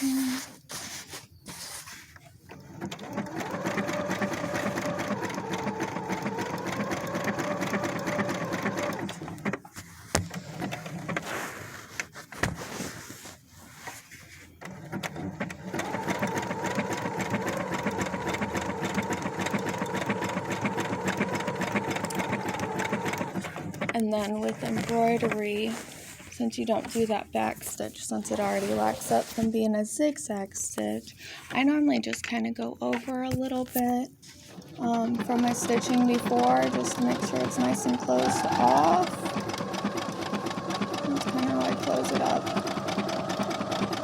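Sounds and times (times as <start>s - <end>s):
sewing machine stitching: 1.6s - 12.9s, 13.9s - 29.5s, 33.0s - 44.0s.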